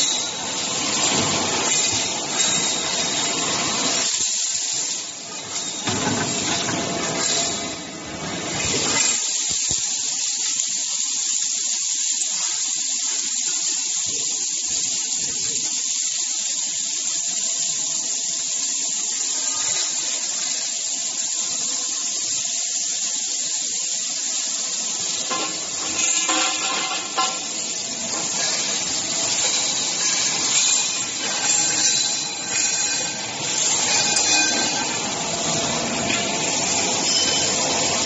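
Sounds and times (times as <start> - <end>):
welding arc hissing sizzle: 0.0 - 38.0.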